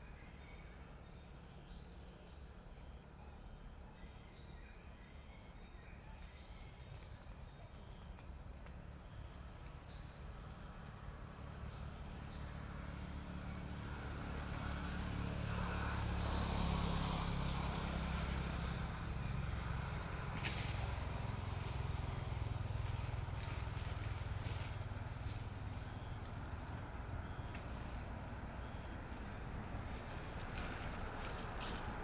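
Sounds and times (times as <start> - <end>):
vehicle engine running: 6.2 - 32.0.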